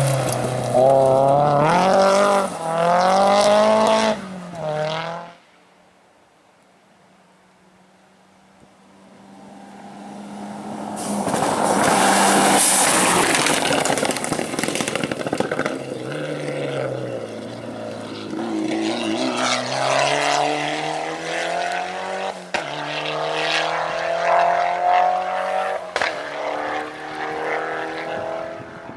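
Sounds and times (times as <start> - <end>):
car engine revving through gears: 0.0 - 5.4, 9.1 - 28.9
rally car passing on gravel: 0.0 - 5.4, 8.8 - 28.9.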